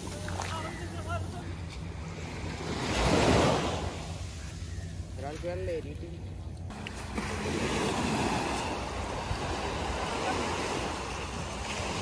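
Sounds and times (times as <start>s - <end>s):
waves breaking on sandy beach: 0.0s - 5.7s, 6.7s - 12.0s.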